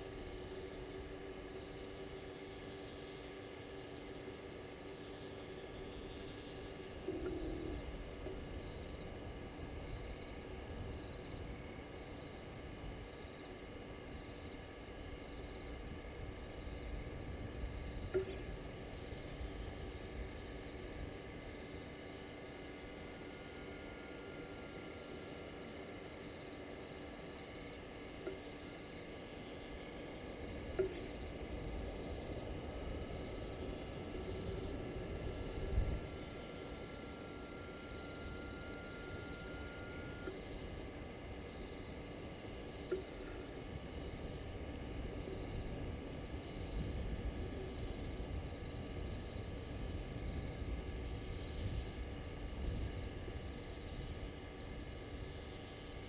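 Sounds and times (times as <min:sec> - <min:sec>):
insect chirp: 0:00.0 - 0:56.0
insects trilling: 0:00.0 - 0:56.0.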